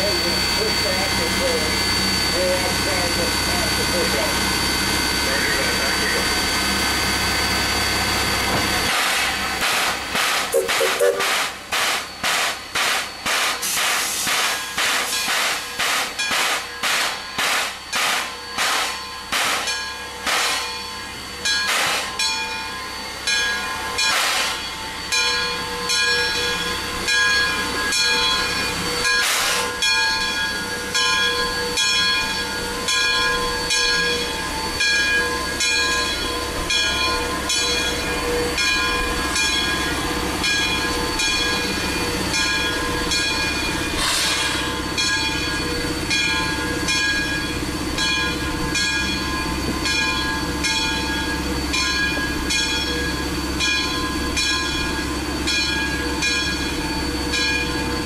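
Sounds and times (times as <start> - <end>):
steady high ringing tone: 0.0 - 9.0, 14.6 - 58.0
steam locomotive exhaust chuffs: 0.0 - 58.0.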